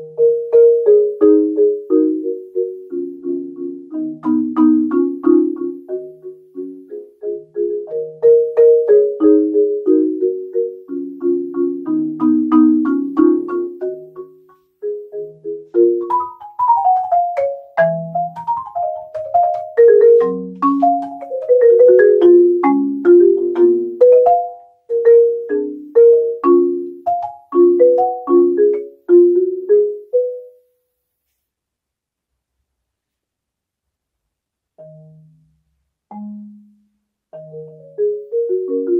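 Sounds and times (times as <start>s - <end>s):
marimba played with mallets: 0.0s - 30.6s, 36.1s - 38.9s.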